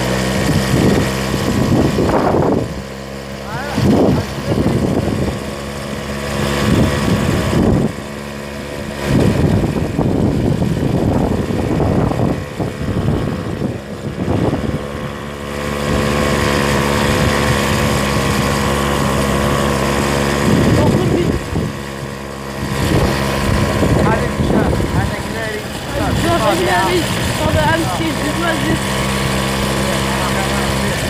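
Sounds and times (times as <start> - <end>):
engine running: 0.0 - 31.0
wind buffeting microphone: 0.0 - 31.0.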